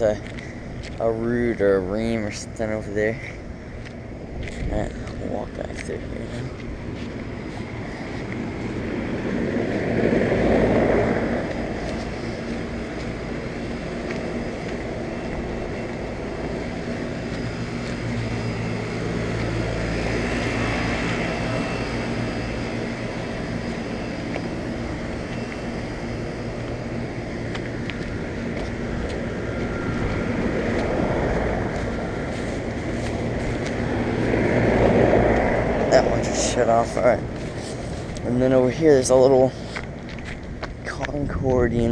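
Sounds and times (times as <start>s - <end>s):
air conditioner fan whoosh: 0.0s - 41.9s
low compressor hum: 0.0s - 41.9s.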